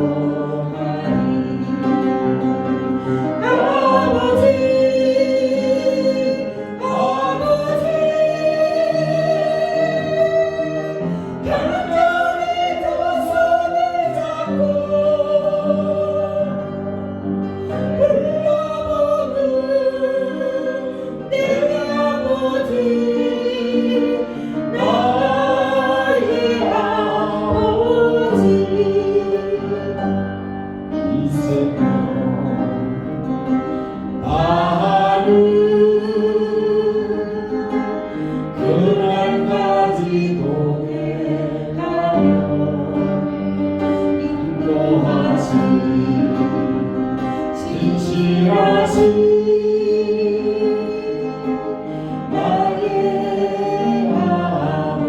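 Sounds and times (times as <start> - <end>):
group of voices singing: 0.0 - 55.0
instrumental accompaniment: 0.0 - 55.0.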